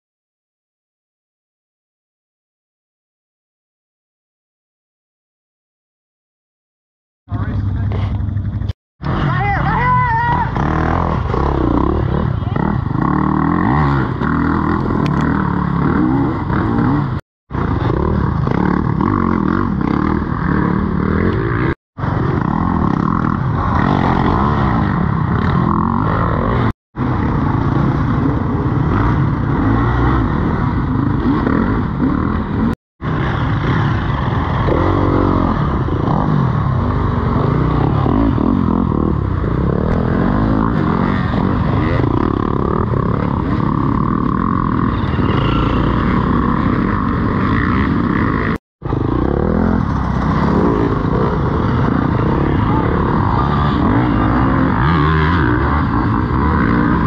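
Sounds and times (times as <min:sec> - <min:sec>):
dirt bike engines revving: 0:07.3 - 0:57.0.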